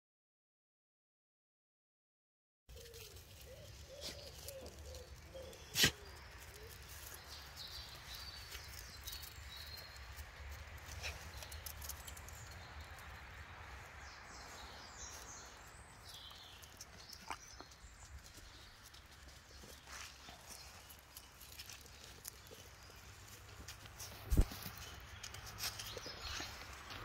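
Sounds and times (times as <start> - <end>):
paws rustling dry leaves: 2.7 - 27.0.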